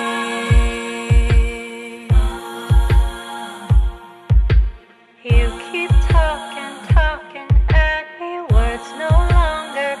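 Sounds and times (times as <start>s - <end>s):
sustained held chords: 0.0s - 10.0s
deep bass drum hits: 0.5s - 9.5s.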